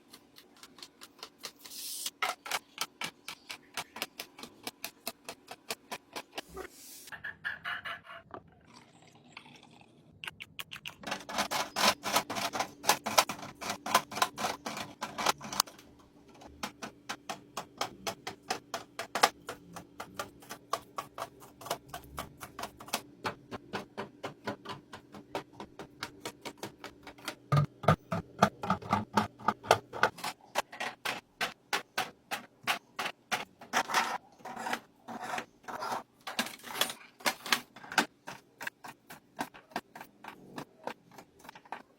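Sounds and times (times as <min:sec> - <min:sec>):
kitchen items clicking and tapping: 0:00.0 - 0:06.5, 0:10.2 - 0:41.9.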